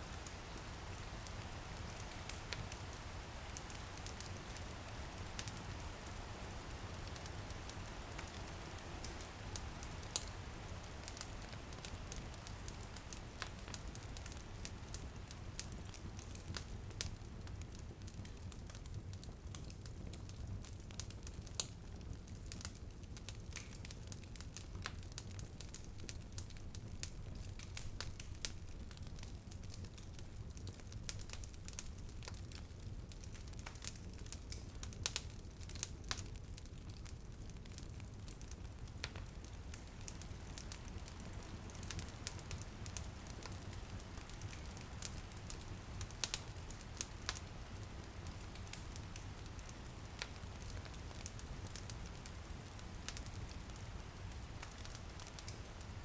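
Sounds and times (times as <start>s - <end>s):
low rumble of flames: 0.0s - 56.0s
rain pattering on a window: 0.0s - 56.0s
wood fire crackling and popping: 0.0s - 56.0s.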